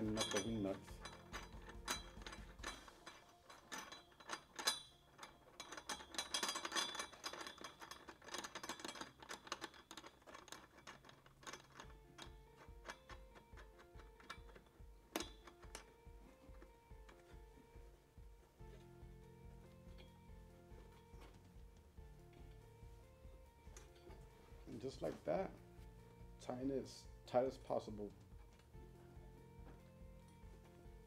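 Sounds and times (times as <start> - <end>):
background music with steady beat: 0.0 - 31.0
metal bracket clicking and rattling: 0.0 - 31.0.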